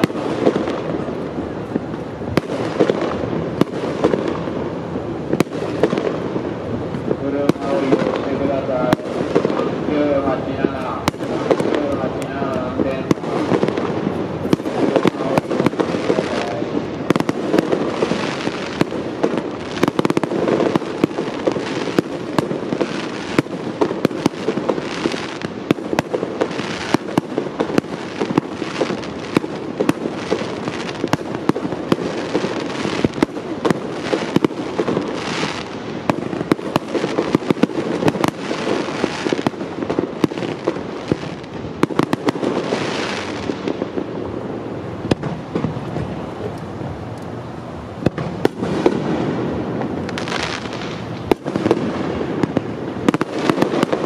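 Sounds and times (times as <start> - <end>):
firework shells bursting: 0.0 - 44.1.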